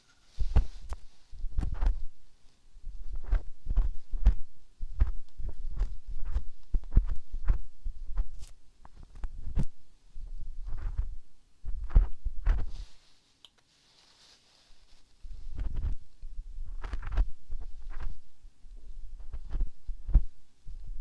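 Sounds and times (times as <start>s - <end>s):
soft deep thumps with crackles: 0.4s - 13.0s, 15.2s - 18.4s, 19.0s - 21.0s.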